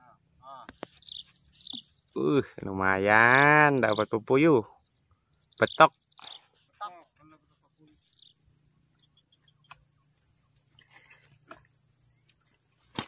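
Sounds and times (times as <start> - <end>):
faint bird chirps: 0.0 - 11.4
insects chirring: 0.0 - 13.0.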